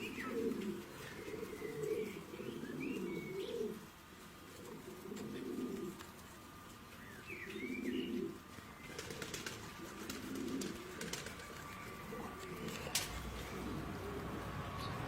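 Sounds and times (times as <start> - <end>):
low pigeon cooing: 0.0 - 15.0.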